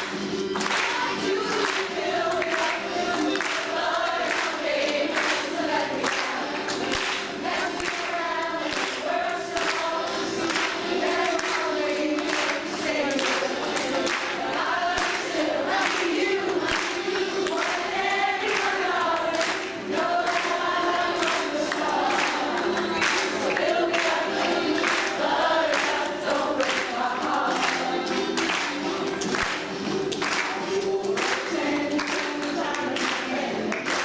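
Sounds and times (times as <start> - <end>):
women singing together: 0.0 - 34.0.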